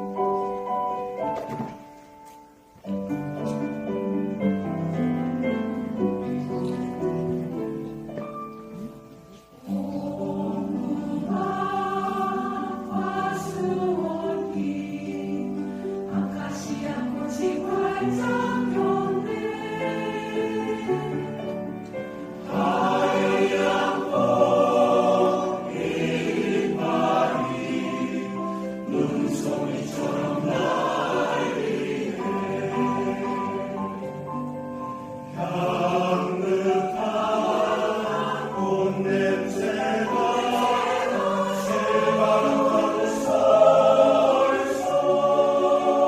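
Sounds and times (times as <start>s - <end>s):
piano accompaniment: 0.0s - 46.0s
choir singing: 8.7s - 46.0s.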